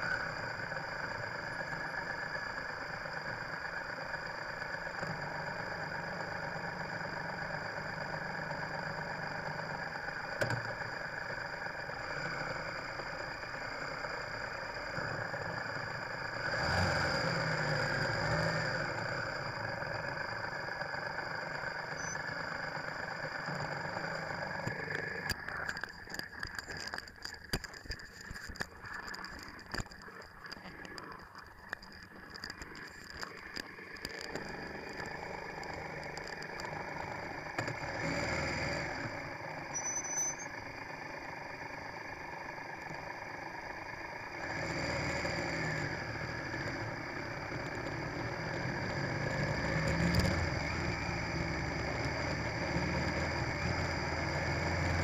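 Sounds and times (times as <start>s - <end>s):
motorcycle engine idling: 0.0s - 16.5s, 17.2s - 55.0s
car and bus engines: 0.0s - 55.0s
steady high whine: 0.0s - 55.0s.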